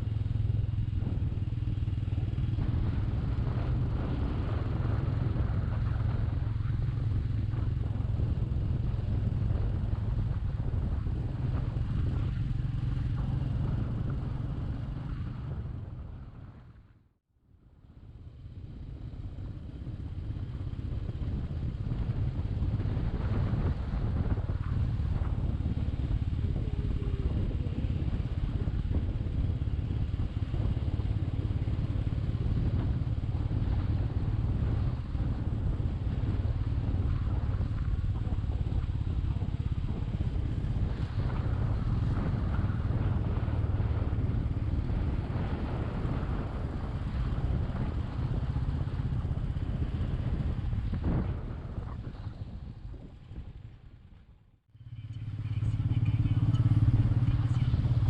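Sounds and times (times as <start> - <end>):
motorcycle engine running: 0.0 - 16.9, 17.8 - 58.0
road and wind noise: 0.0 - 58.0.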